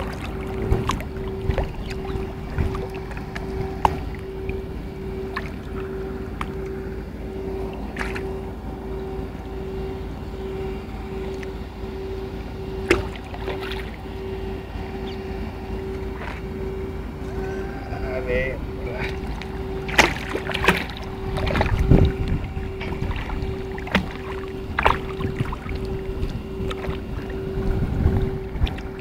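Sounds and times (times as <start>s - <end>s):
boat engine rumble: 0.0s - 29.0s
pulsing hum: 0.0s - 29.0s.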